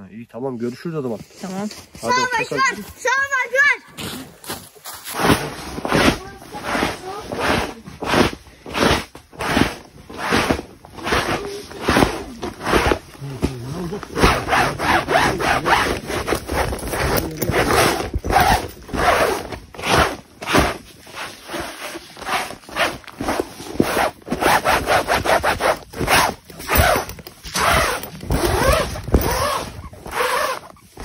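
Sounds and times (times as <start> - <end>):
cloth wiping tent fabric: 5.1 - 31.0.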